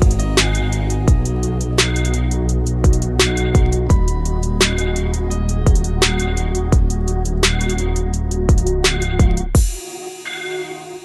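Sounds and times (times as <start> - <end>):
sustained bass line: 0.0 - 9.6
drum beat with hi-hat: 0.0 - 11.0.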